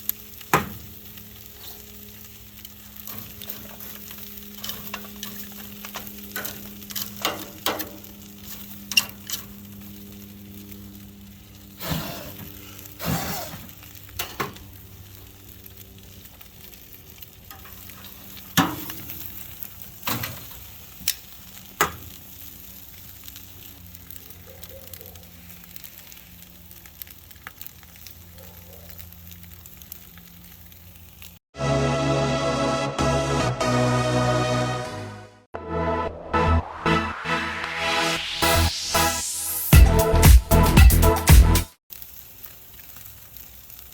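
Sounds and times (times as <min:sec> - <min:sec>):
coals crackling and popping: 0:00.0 - 0:31.4, 0:37.6 - 0:43.9
steak sizzling on charcoal: 0:00.0 - 0:31.4, 0:38.2 - 0:43.9.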